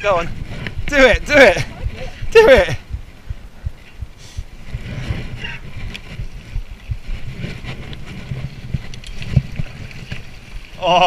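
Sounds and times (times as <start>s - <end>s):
wind and tyre rumble: 0.0s - 11.0s.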